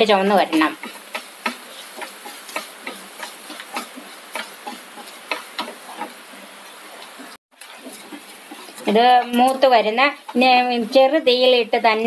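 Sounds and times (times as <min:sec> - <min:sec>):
faint frying hiss: 0:00.0 - 0:12.0
spatula scraping pan: 0:00.0 - 0:12.0.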